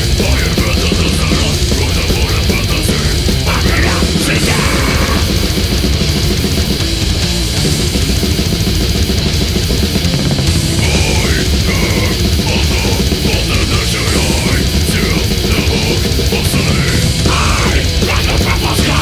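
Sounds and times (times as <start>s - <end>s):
death metal music: 0.0s - 19.0s
distorted electric guitars: 0.0s - 19.0s.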